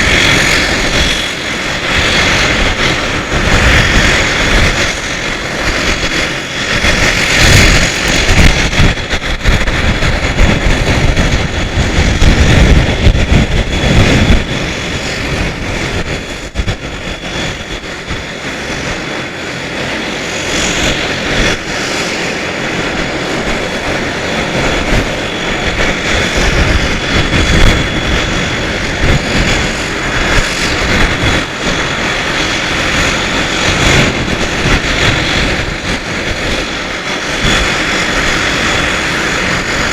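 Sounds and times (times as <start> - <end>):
steady high engine whine: 0.0 - 39.9
turboprop engines running: 0.0 - 39.9.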